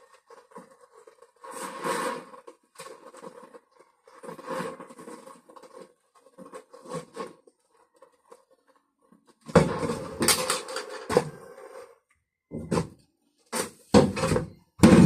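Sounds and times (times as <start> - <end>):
objects clattering and scraping: 0.0 - 15.0.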